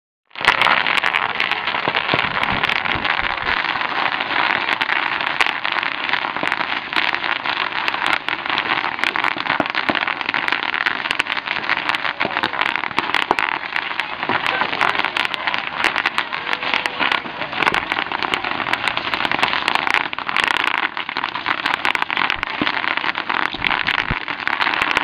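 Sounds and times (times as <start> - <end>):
plastic sheeting crackling under tyres: 0.4 - 25.0.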